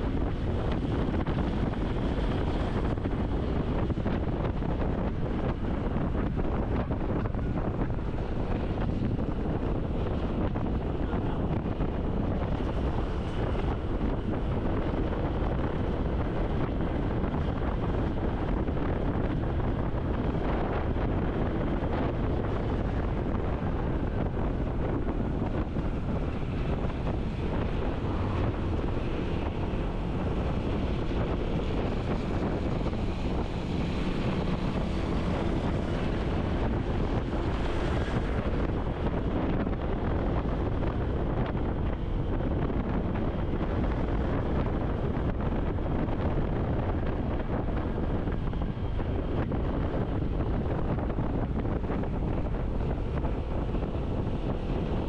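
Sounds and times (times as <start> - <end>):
road and traffic rumble: 0.0 - 55.0
wind buffeting microphone: 0.0 - 55.0.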